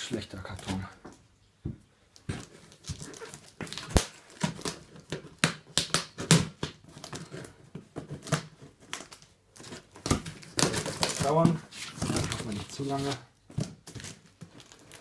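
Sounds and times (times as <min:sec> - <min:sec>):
packing tape crackling and scraping: 0:02.2 - 0:15.0.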